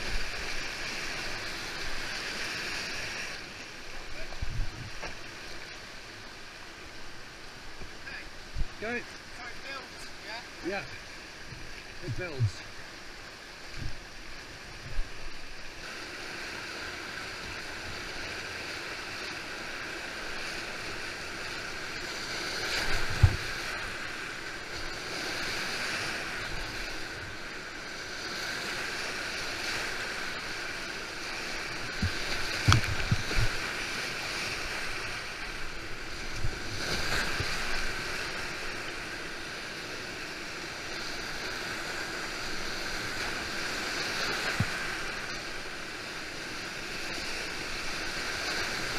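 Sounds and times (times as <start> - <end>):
whitewater rapids rushing: 5.2 - 48.9.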